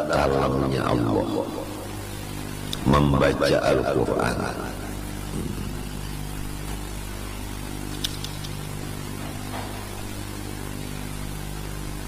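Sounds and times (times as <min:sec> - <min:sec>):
low hum with hiss: 0:00.0 - 0:12.0.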